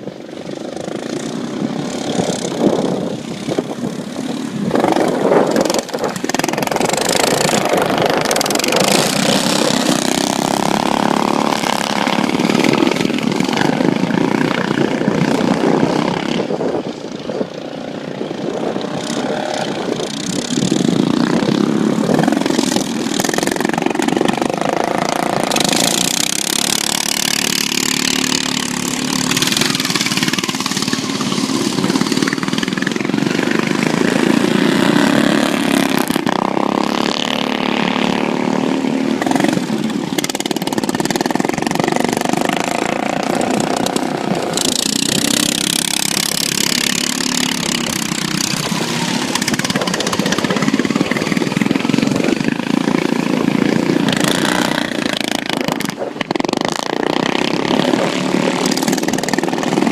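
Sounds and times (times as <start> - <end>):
racing lawn mower engines: 0.0 - 59.9.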